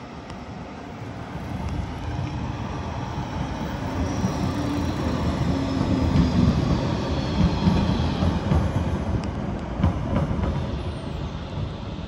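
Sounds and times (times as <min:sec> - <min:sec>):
tram rumbling past: 0:00.0 - 0:12.0.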